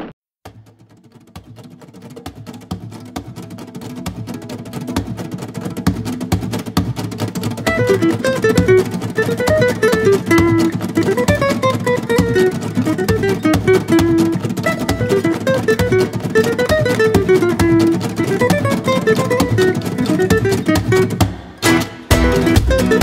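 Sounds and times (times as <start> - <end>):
strummed acoustic guitar: 0.0 - 23.0
picked guitar melody: 0.7 - 23.0.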